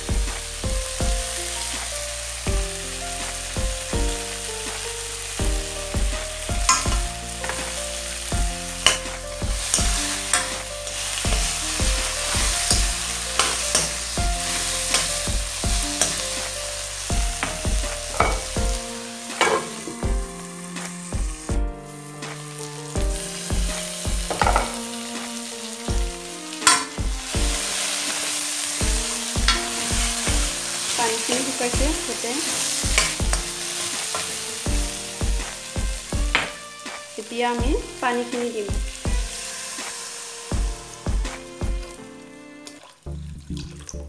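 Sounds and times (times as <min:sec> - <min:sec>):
food sizzling in a pan: 0:00.0 - 0:43.2
soft melody with low beat: 0:00.0 - 0:43.8.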